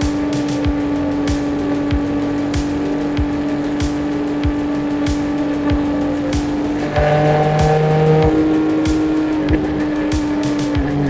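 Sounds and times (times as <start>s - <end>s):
motorcycle engine at steady speed: 0.0s - 11.0s
wind and road noise: 0.0s - 11.0s.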